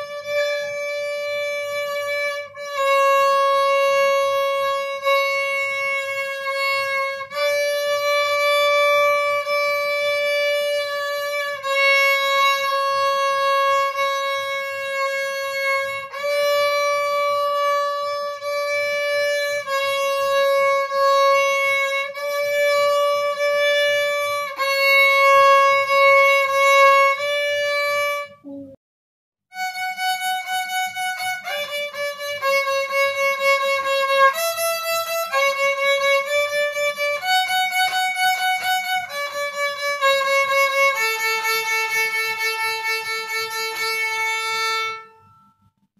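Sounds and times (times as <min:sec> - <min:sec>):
violin playing slow melody: 0:00.0 - 0:28.7, 0:29.5 - 0:45.8.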